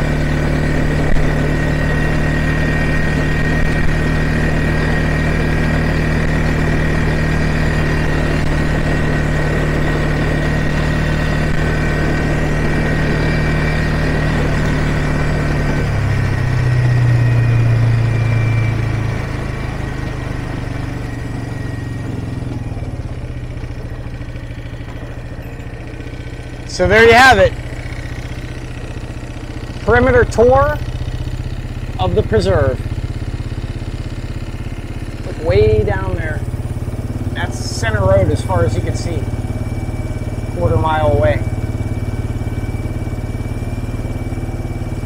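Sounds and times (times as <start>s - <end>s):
atv engine running: 0.0s - 45.0s.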